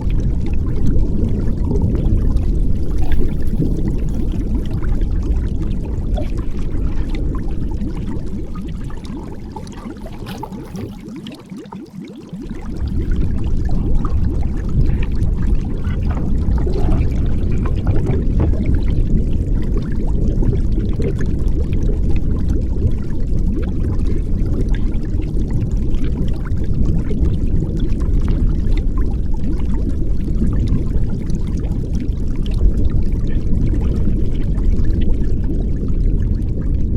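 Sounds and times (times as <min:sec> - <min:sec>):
muffled underwater rumble: 0:00.0 - 0:36.9.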